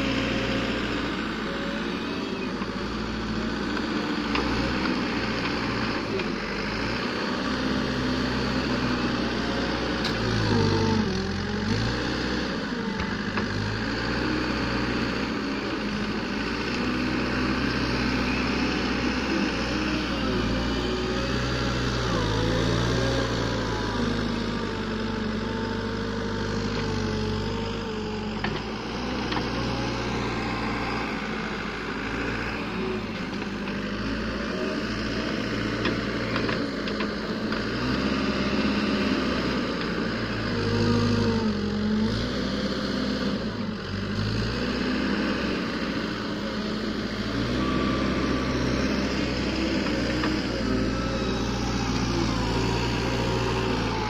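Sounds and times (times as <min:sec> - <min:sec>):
wheel loader diesel engine revving: 0:00.0 - 0:54.0.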